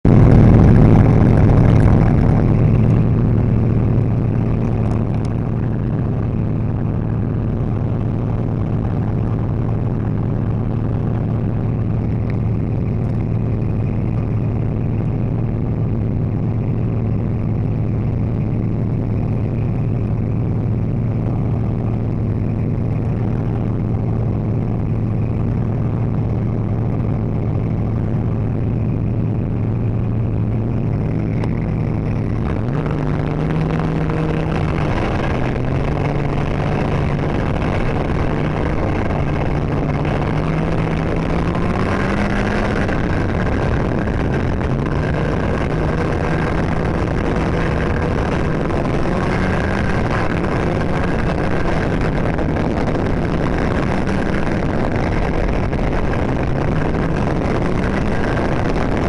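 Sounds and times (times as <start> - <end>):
snowmobile engine droning: 0.0 - 59.0.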